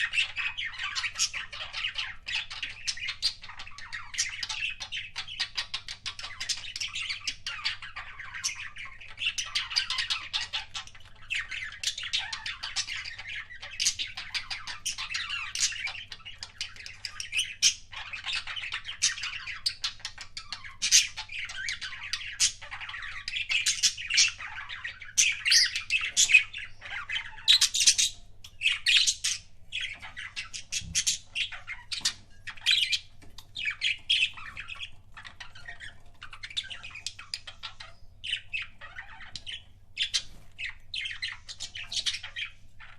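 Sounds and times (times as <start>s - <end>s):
budgerigars chattering and warbling: 0.0s - 42.9s.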